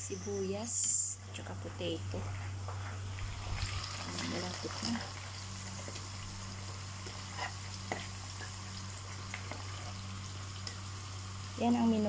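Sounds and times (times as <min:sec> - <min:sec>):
peppers sizzling in oil: 0:00.0 - 0:12.0.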